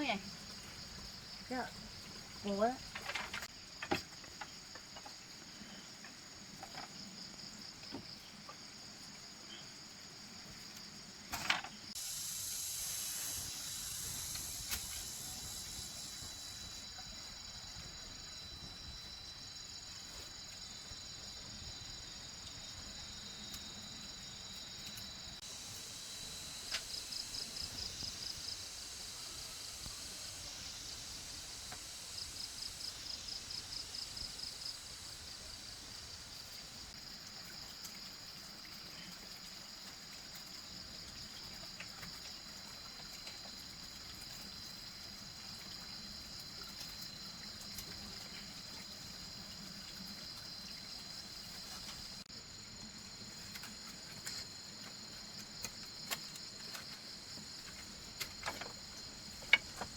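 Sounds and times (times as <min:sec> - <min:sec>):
insects chirping high-pitched: 0:00.0 - 0:59.9
pulsing insect chirp: 0:00.0 - 0:59.9.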